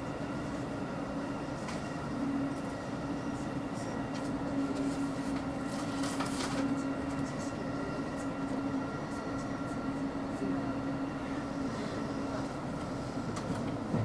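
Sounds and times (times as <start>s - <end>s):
train low hum: 0.0s - 14.0s
train rolling noise: 0.0s - 14.0s.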